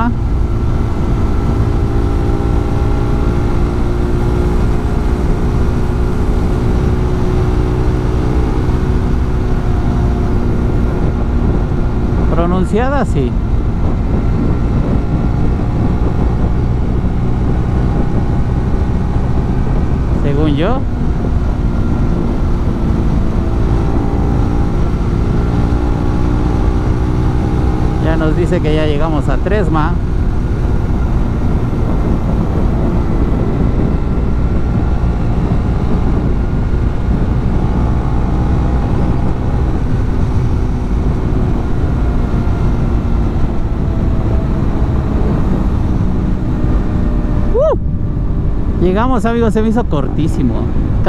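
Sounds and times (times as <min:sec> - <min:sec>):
motorcycle engine running: 0:00.0 - 0:51.0
wind and road rumble: 0:00.0 - 0:51.0.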